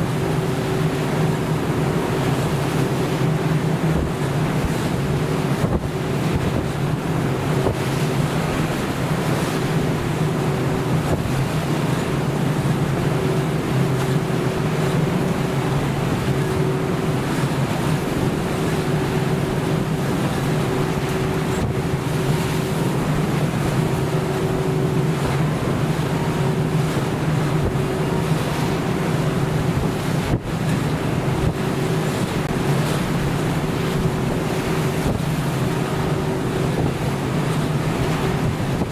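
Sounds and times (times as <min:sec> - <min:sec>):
ship engine droning: 0:00.0 - 0:38.9
waves washing: 0:00.0 - 0:38.9
wind buffeting microphone: 0:00.0 - 0:38.9.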